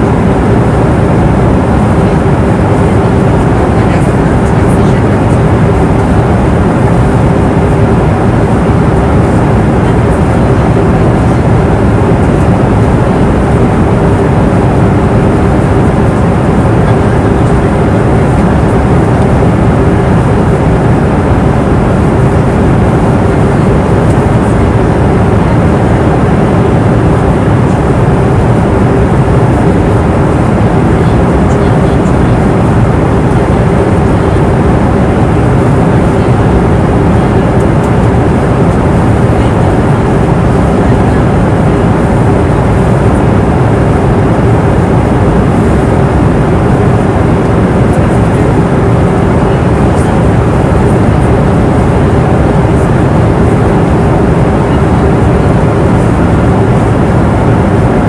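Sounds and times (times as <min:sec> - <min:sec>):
rush of engine and airflow: 0:00.0 - 0:58.0
steady low hum: 0:00.0 - 0:58.0.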